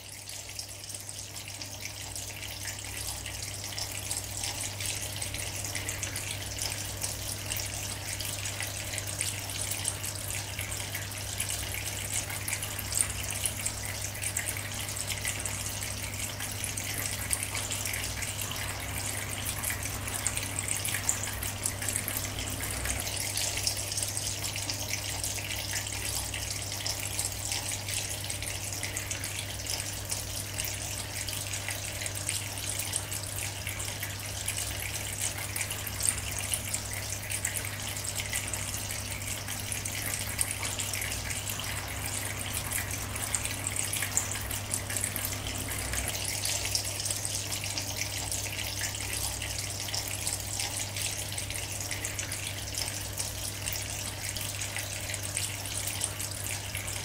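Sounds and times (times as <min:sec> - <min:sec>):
low steady pump hum: 0:00.0 - 0:57.0
water trickling and splashing: 0:00.0 - 0:57.0.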